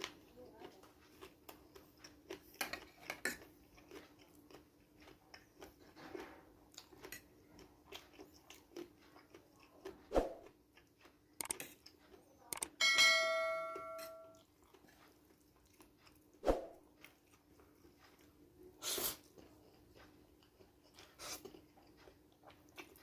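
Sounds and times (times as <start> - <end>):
person chewing fried noodles: 0.0 - 12.6, 14.3 - 23.0.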